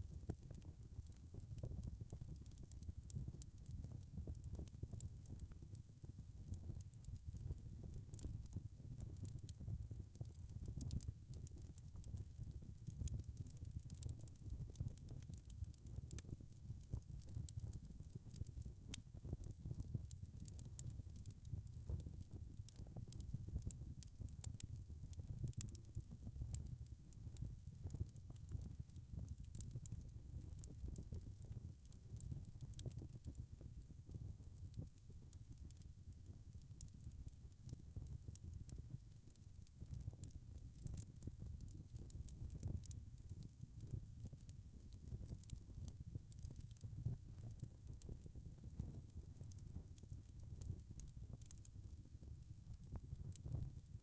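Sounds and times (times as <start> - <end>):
wood fire crackling: 0.1 - 53.7.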